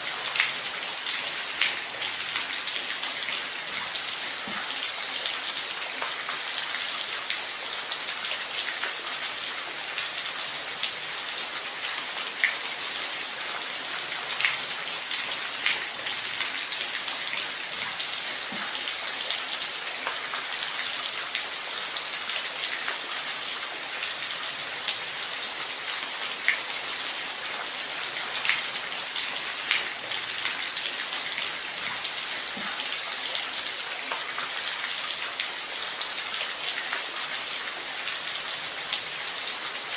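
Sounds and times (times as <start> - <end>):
rain drops ticking on a surface: 0.0 - 39.9.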